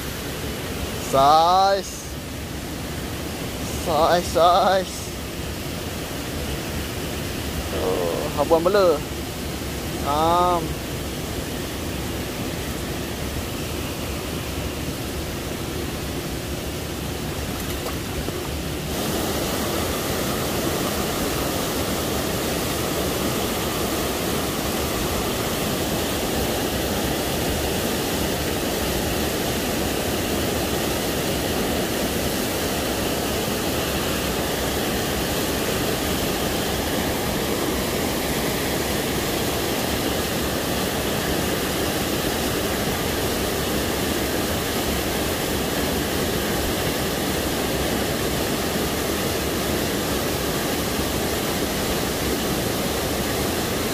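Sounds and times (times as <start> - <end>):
waterfall rushing over rocks: 0.0 - 53.9.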